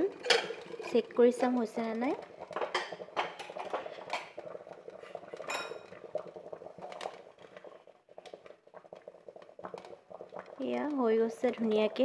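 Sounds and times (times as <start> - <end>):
water bubbling faintly: 0.0 - 12.0.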